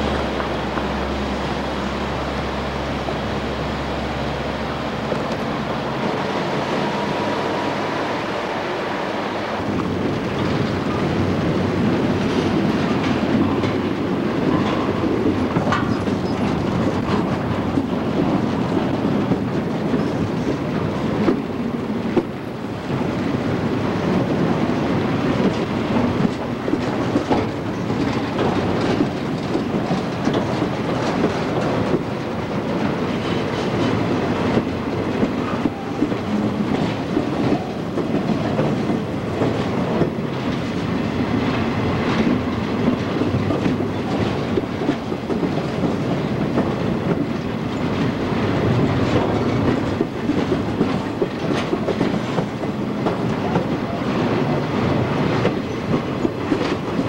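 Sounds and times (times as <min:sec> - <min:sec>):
freight train cars rumbling: 0:00.0 - 0:57.0
wheels clacking over rail joints: 0:09.6 - 0:57.0.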